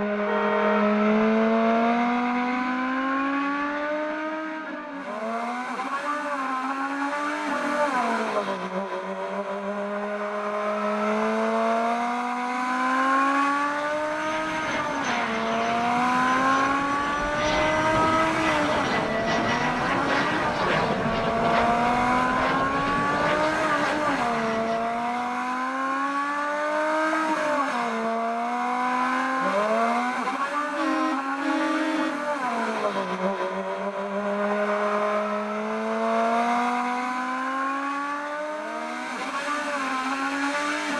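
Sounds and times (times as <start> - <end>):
car engine revving through gears: 0.0 - 40.9
road and wind rush: 1.2 - 40.9.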